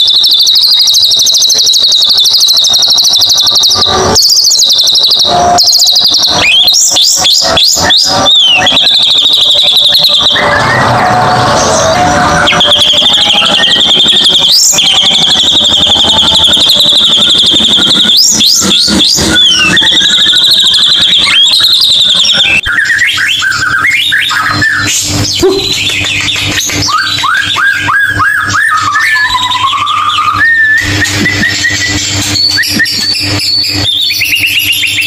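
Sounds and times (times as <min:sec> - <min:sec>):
bird whistles: 0:00.0 - 0:11.0, 0:12.2 - 0:35.0
bird trilling: 0:00.0 - 0:35.0.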